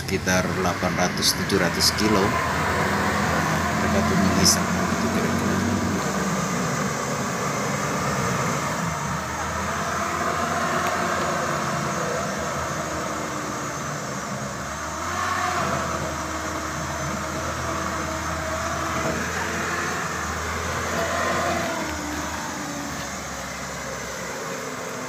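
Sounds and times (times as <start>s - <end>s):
off-road vehicle engine straining: 0.0s - 25.0s
wheels spinning in dirt: 0.0s - 25.0s.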